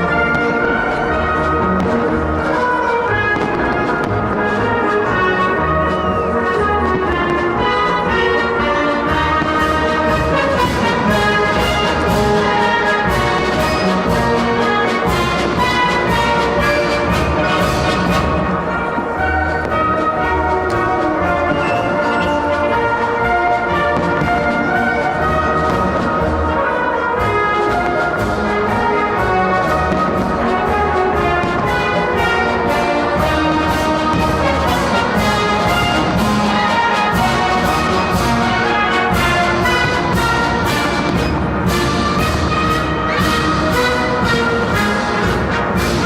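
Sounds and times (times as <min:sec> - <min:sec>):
orchestral music with brass: 0:00.0 - 0:46.0.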